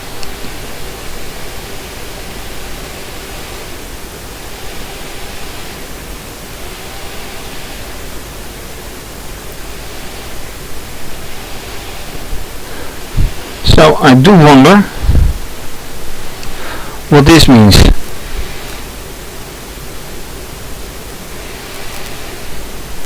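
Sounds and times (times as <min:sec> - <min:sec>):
small propeller motors hissing: 0:00.0 - 0:23.0.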